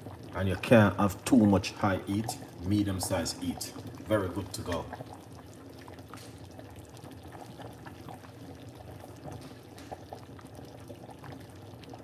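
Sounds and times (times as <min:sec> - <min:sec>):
soup bubbling in pot: 0:00.0 - 0:12.0.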